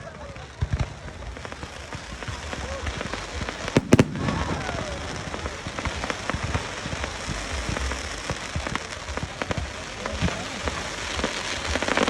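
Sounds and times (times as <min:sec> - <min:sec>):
fireworks crackling: 0:00.0 - 0:12.0
fireworks bangs: 0:00.1 - 0:12.0.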